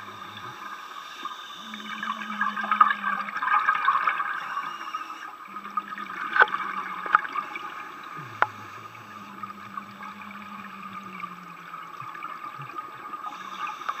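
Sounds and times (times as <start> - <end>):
underwater bubbling and gurgling: 0.0 - 14.0
low hum: 1.5 - 13.8.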